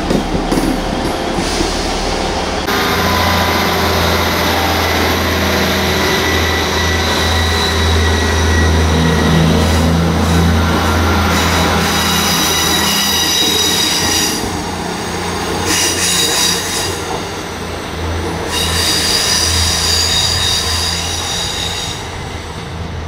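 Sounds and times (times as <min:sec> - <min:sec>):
train wheels squealing on rails: 0:00.4 - 0:22.7.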